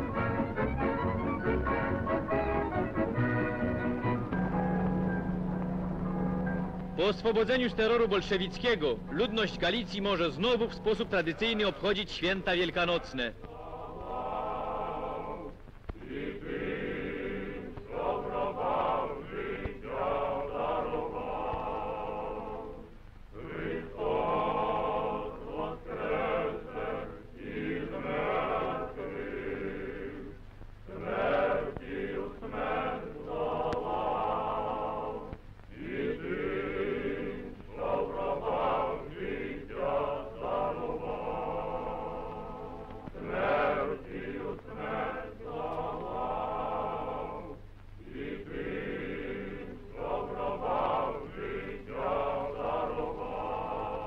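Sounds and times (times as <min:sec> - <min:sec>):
steady low hum: 0:00.0 - 0:54.0
choir singing a slow chant: 0:06.4 - 0:54.0.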